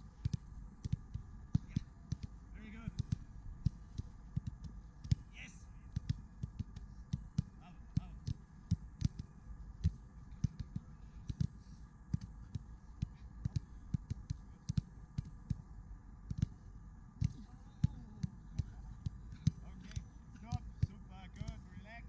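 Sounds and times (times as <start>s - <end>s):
feet kicking a football: 0.0s - 15.7s, 17.2s - 21.8s.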